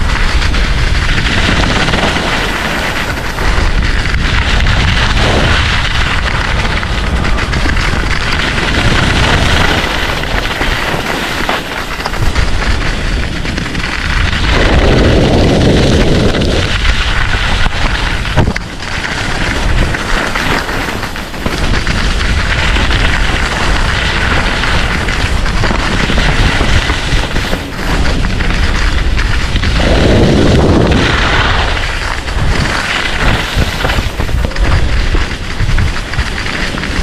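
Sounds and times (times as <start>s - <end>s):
skis scraping over snow: 0.0s - 37.0s
wind buffeting microphone: 0.0s - 37.0s.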